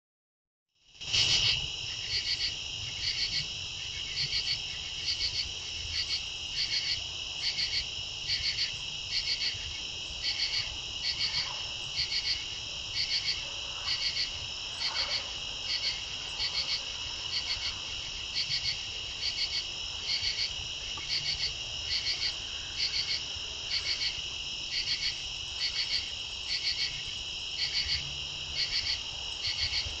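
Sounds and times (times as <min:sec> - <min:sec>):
insect high-pitched trill: 0:00.9 - 0:30.0
pulsed insect call: 0:00.9 - 0:30.0.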